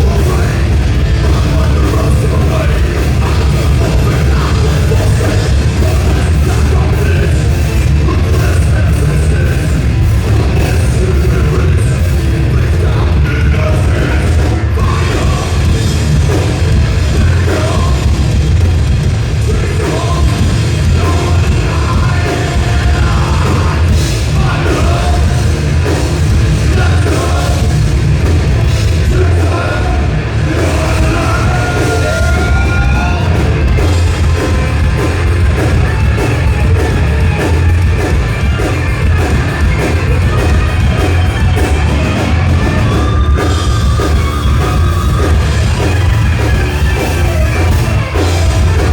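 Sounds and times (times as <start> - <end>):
bass guitar: 0.0 - 48.9
distorted electric guitars: 0.0 - 48.9
drum kit: 0.0 - 48.9.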